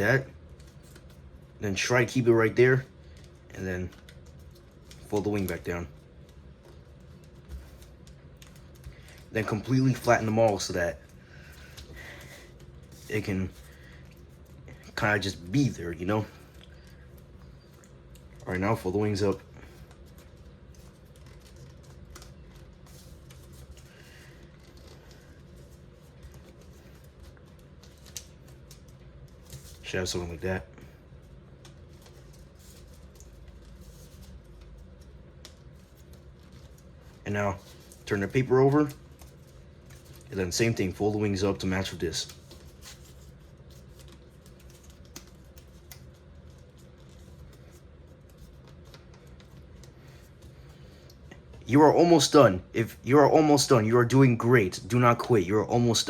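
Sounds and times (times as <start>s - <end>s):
paper being folded and creased: 0.0s - 51.7s
steady low hum: 0.0s - 56.0s.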